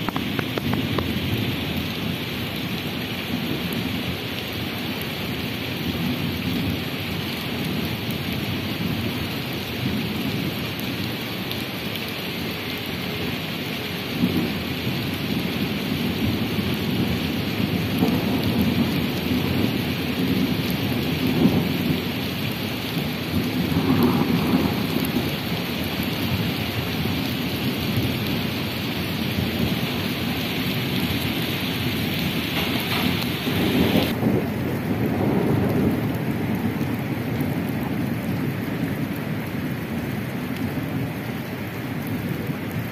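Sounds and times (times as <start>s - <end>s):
heavy rain on pavement: 0.0s - 42.9s.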